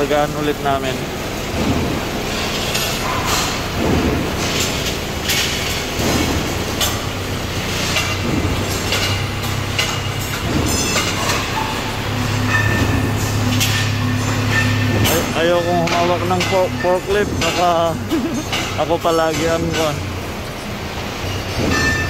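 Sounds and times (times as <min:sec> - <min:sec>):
forklift running: 0:00.0 - 0:22.0
metal clanks and knocks: 0:00.0 - 0:22.0
steady low hum: 0:00.0 - 0:22.0.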